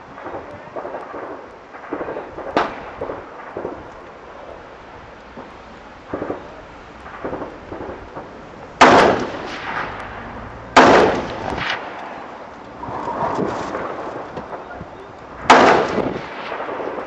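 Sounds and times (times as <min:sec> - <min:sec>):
wind noise on microphone: 0:00.0 - 0:17.0
rifle shots echoing: 0:00.1 - 0:04.7, 0:06.1 - 0:14.8, 0:15.4 - 0:17.0.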